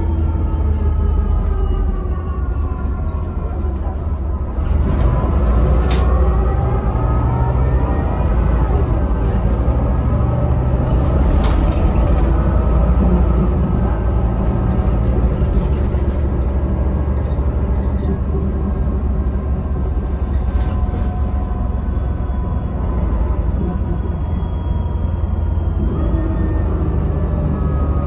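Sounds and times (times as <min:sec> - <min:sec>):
diesel engine droning: 0:00.0 - 0:28.0.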